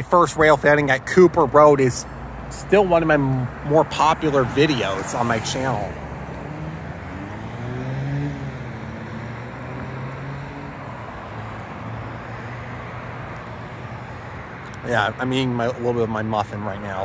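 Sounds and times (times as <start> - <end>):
car passing: 0.0 - 17.0
road traffic: 0.0 - 17.0.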